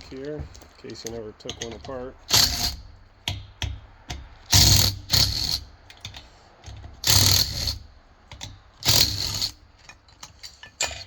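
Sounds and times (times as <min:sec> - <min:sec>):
metal parts rattling and scraping: 0:00.0 - 0:03.4, 0:04.1 - 0:11.0.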